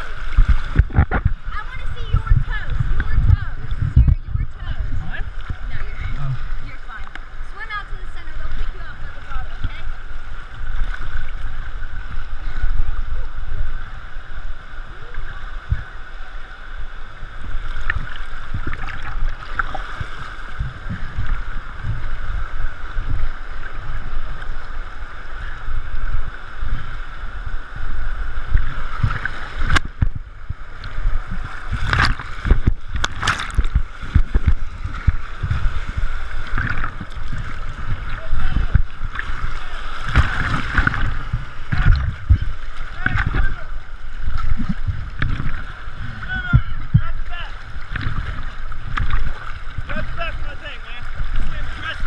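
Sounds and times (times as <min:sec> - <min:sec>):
low buffeting: 0:00.0 - 0:52.0
river water rushing: 0:00.0 - 0:52.0.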